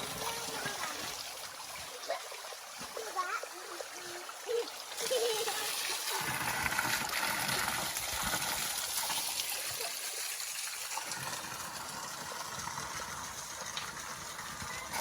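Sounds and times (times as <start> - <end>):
water gushing from spout: 0.0 - 15.0.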